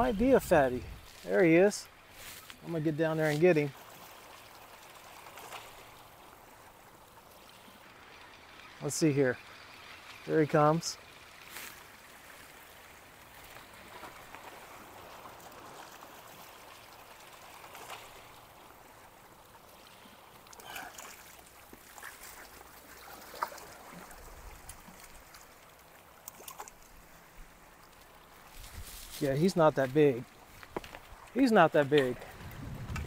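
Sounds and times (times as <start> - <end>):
water lapping against rocks: 0.0 - 33.0.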